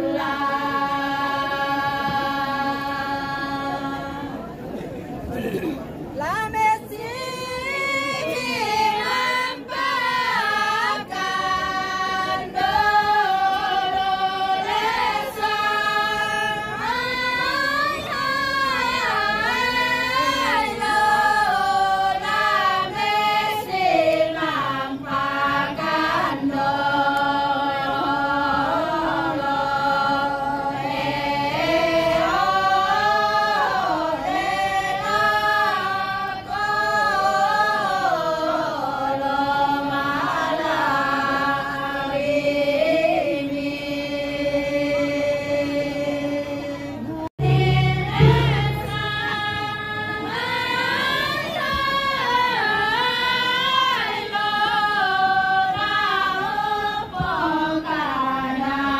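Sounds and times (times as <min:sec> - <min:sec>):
women singing a chant: 0:00.0 - 0:04.7, 0:06.2 - 0:58.9.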